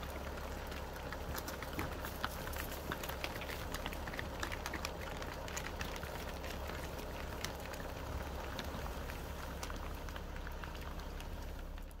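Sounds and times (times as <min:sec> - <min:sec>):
hooves walking on asphalt: 0:00.0 - 0:12.0.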